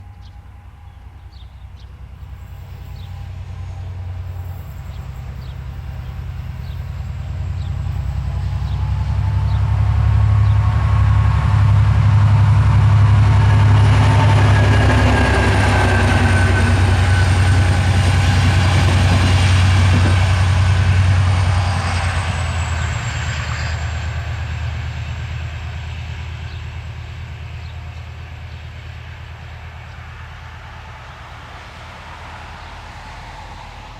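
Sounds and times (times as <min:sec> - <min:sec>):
diesel locomotive engine drone: 0:00.0 - 0:33.9
train rolling: 0:00.0 - 0:33.9.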